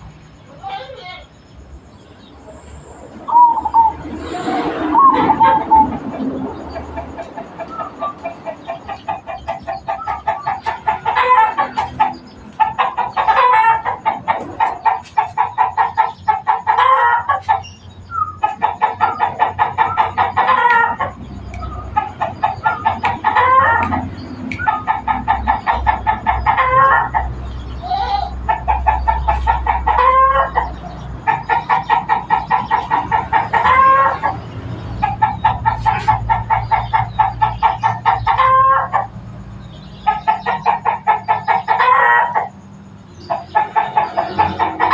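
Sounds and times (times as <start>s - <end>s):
doves cooing: 2.7s - 39.4s.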